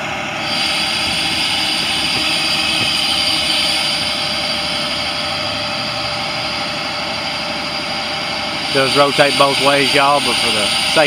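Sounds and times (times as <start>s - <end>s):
diesel engine running: 0.0s - 11.0s
hydraulic hiss: 0.4s - 6.0s, 6.6s - 11.0s.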